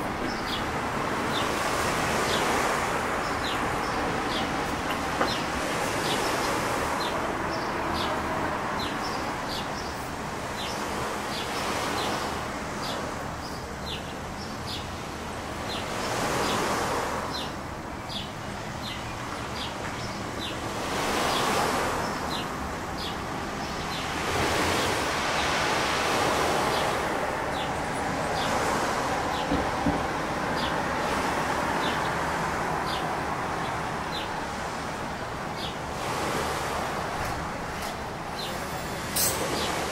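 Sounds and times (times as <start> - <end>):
small waves washing ashore: 0.0 - 39.9.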